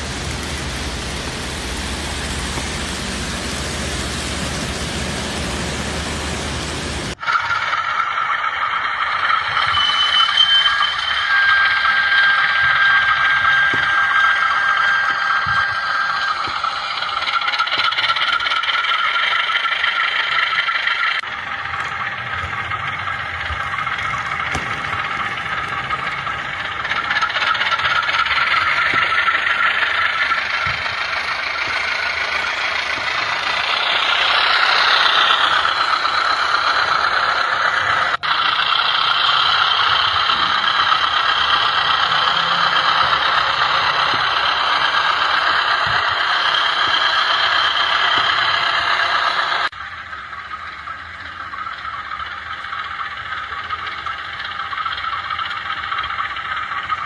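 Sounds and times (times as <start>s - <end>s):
model train motor rattling hum: 0.0s - 57.0s.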